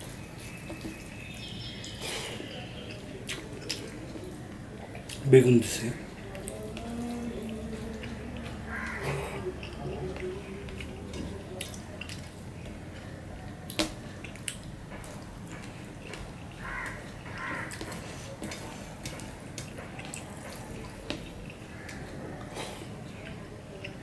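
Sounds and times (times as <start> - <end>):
wet squishing of rice: 0.0 - 24.0.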